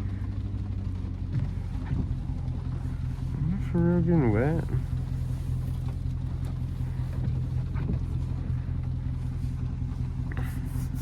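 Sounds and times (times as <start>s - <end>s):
car engine idling low: 0.0s - 11.0s.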